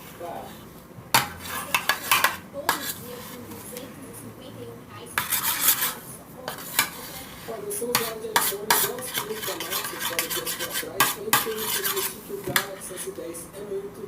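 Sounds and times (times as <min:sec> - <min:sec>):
utensil scraping a bowl: 0:00.0 - 0:03.7, 0:05.2 - 0:13.2.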